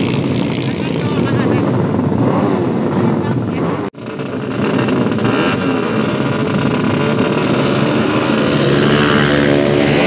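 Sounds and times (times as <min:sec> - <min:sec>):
motorcycles revving high: 0:00.0 - 0:10.0.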